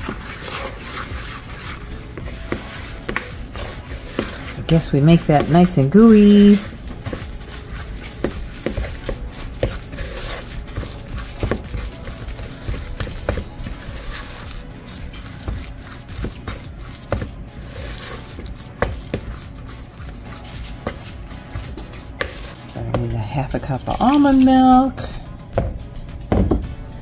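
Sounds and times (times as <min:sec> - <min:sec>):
spoon stirring thick batter: 0:00.0 - 0:25.8.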